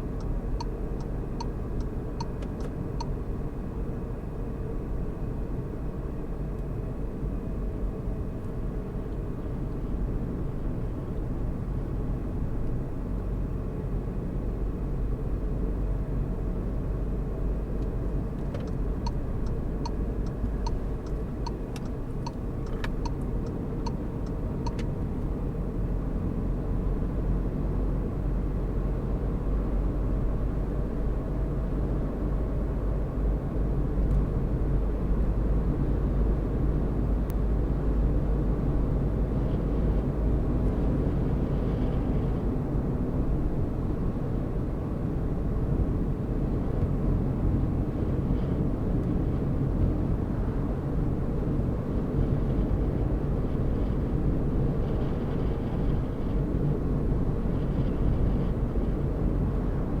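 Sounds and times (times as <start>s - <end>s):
car engine rumble: 0.0s - 60.0s
tyre road noise: 6.0s - 60.0s.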